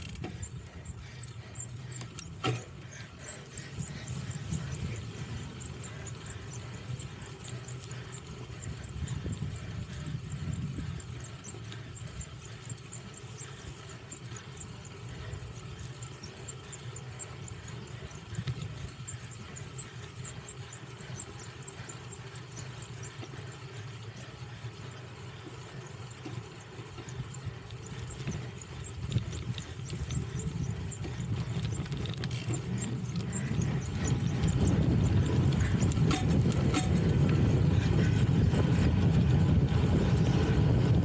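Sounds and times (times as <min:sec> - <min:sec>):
fast high ticking: 0:00.0 - 0:40.0
bike tyres rumbling over rough ground: 0:00.0 - 0:41.0.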